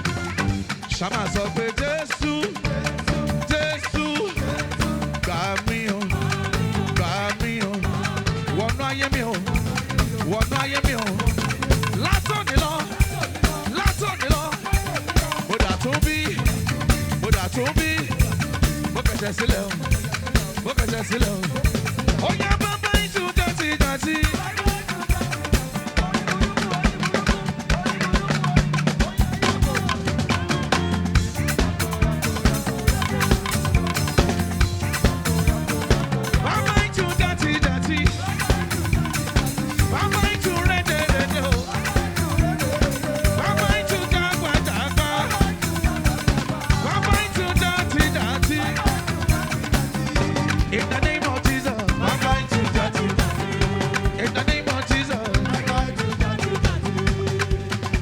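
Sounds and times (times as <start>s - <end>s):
bass line: 0.0s - 1.9s, 2.6s - 58.0s
live gospel band music: 0.0s - 58.0s
steady drum beat: 0.0s - 58.0s.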